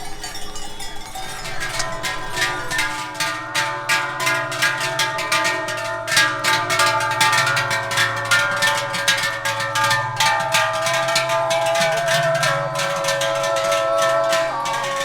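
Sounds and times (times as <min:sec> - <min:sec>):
cow bells clanging: 0:00.0 - 0:15.0.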